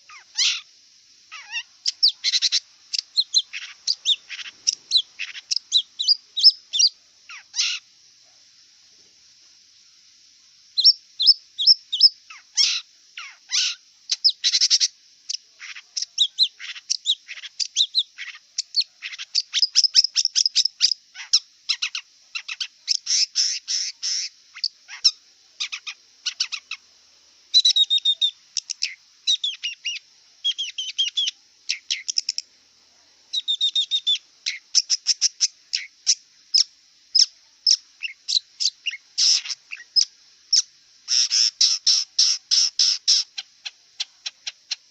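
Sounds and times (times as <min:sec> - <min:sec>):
bird chirping and trilling: 0:00.1 - 0:00.7, 0:01.3 - 0:07.8, 0:10.8 - 0:14.9, 0:15.6 - 0:26.8, 0:27.5 - 0:32.4, 0:33.3 - 0:44.8.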